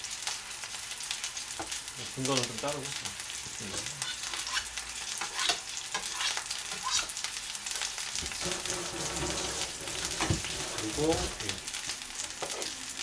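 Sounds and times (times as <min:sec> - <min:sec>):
patties sizzling in a frying pan: 0:00.0 - 0:13.0.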